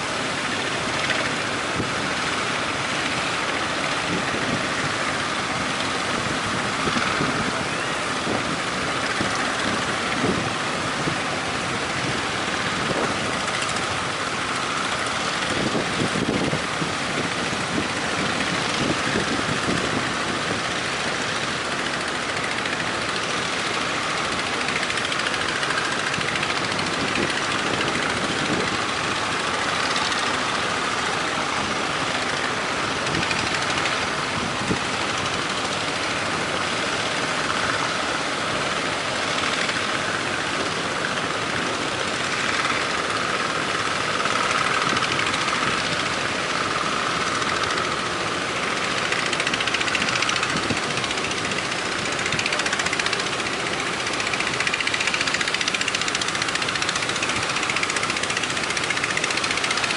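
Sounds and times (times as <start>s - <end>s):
fishing boat engines: 0.0s - 59.9s
wind: 0.0s - 59.9s.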